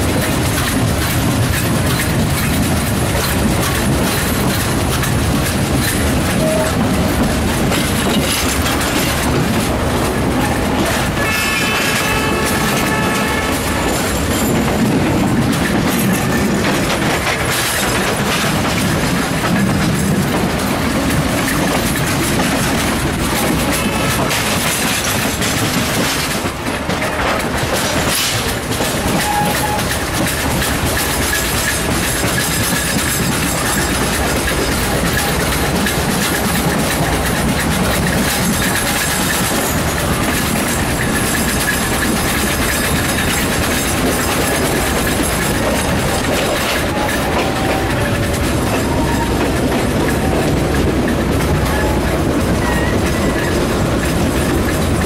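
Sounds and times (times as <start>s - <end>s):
train wheels rumbling and clattering: 0.0s - 55.0s.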